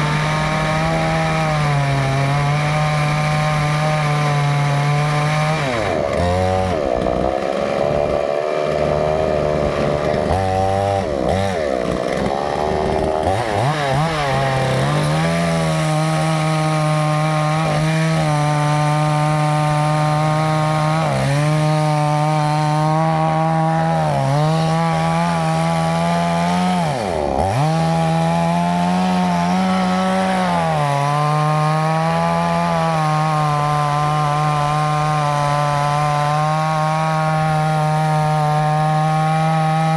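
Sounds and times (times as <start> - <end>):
chainsaw cutting into wood: 0.0 - 39.9.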